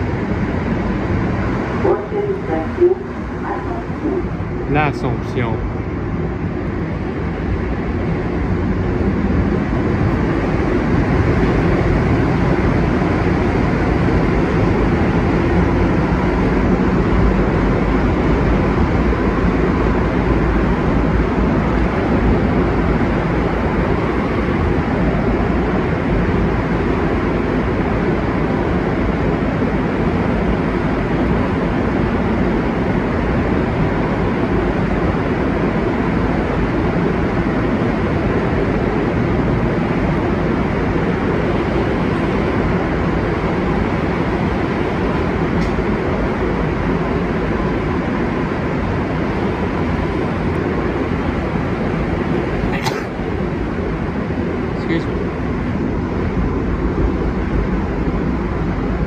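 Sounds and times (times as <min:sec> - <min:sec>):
train rushing through tunnel: 0:00.0 - 0:59.0.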